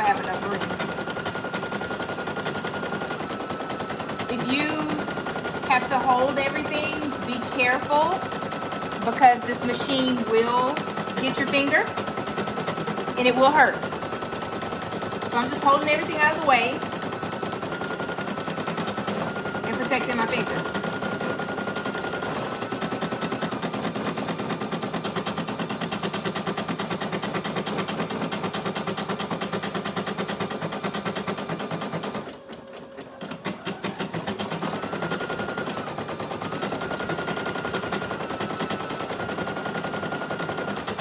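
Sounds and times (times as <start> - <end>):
embroidery machine needle clatter: 0.0 - 41.0.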